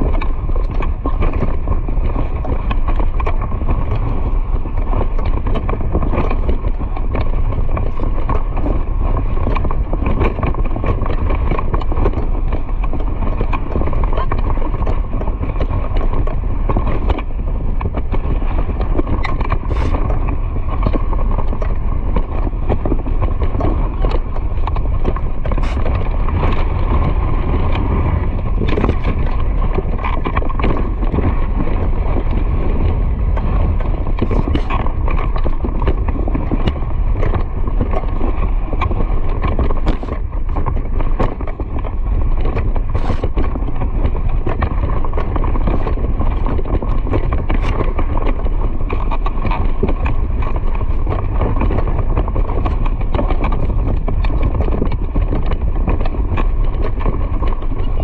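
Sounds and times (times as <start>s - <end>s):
running animal footfalls: 0.0s - 58.0s
wind buffeting microphone: 0.0s - 58.0s.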